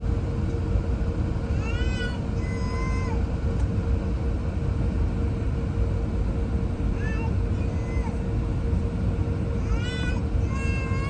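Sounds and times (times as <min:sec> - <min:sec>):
airliner cabin rumble: 0:00.0 - 0:11.0
faint steady hum: 0:00.0 - 0:11.0.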